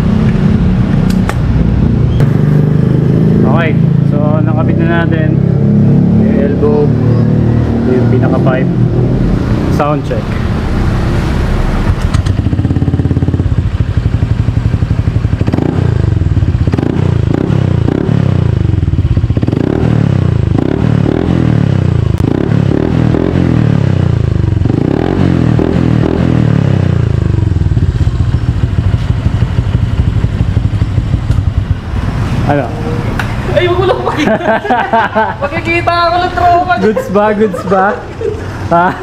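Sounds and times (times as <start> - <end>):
scooter engine revving: 0.0 - 39.0.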